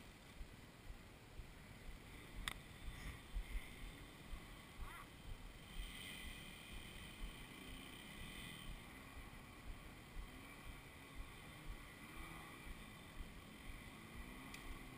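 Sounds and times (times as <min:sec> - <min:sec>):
faint motorbike engines idling: 0:00.0 - 0:14.9.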